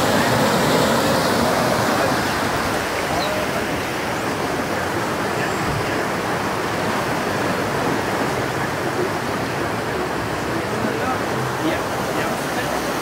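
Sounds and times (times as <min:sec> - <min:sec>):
rushing river: 0:00.0 - 0:13.0.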